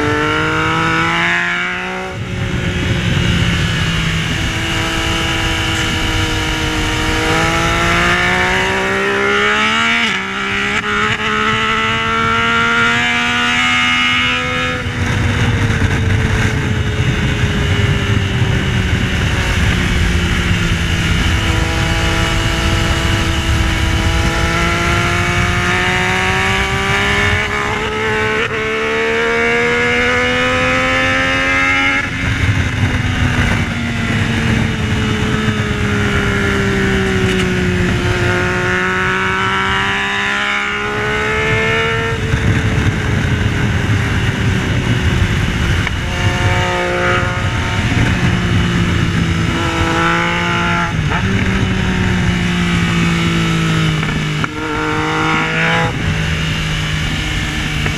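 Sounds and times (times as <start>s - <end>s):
motorcycle engine accelerating: 0.0s - 57.9s
wind rushing: 0.0s - 57.9s.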